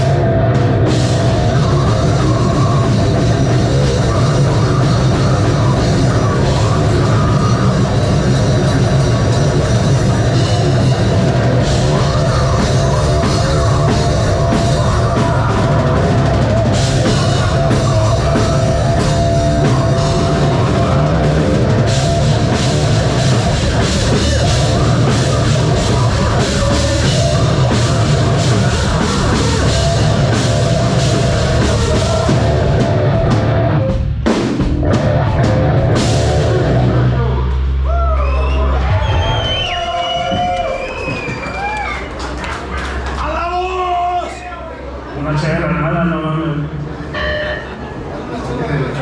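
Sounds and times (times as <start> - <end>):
distorted guitars and bass: 0.0 - 41.9
pounding drum kit: 0.0 - 44.2.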